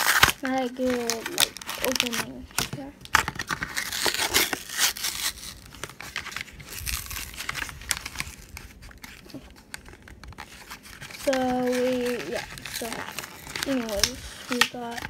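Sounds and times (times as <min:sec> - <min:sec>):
card packaging crinkling and tearing: 0:00.0 - 0:15.0.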